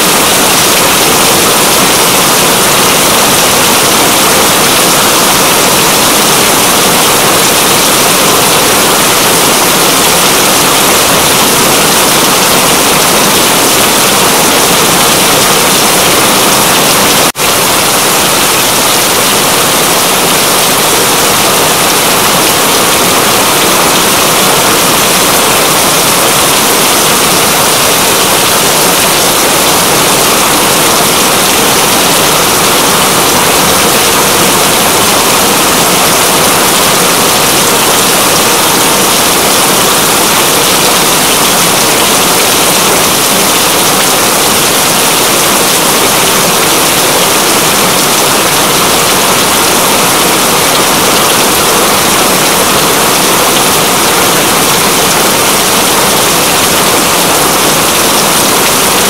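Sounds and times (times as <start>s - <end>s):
loud steady rain: 0.0s - 59.0s.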